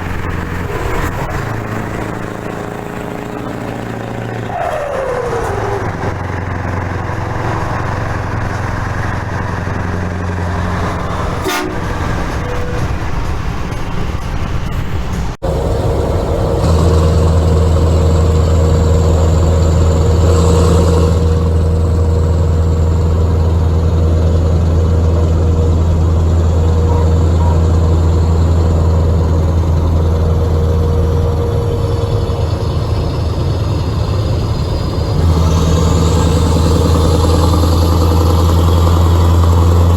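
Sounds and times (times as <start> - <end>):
truck engine deep drone: 0.0 - 39.9.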